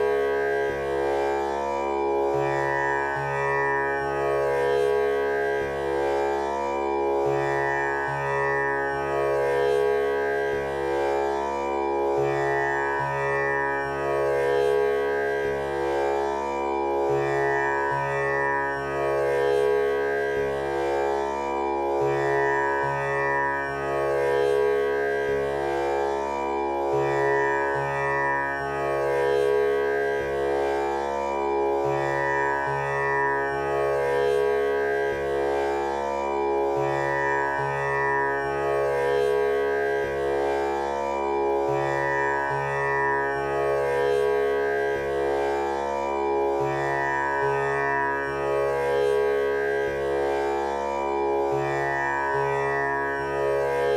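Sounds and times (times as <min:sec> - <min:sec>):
tanpura drone: 0:00.0 - 0:53.9.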